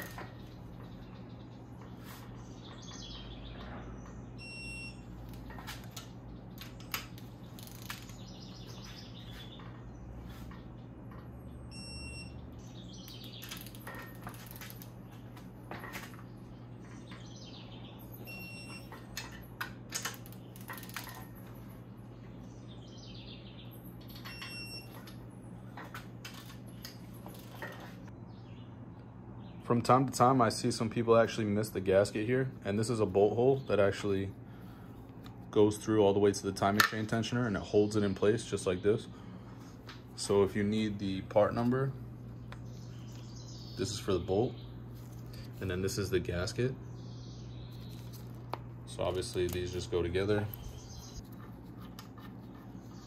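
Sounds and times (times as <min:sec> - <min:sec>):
birds chirping: 0:00.0 - 0:53.0
steady low hum: 0:00.0 - 0:53.0.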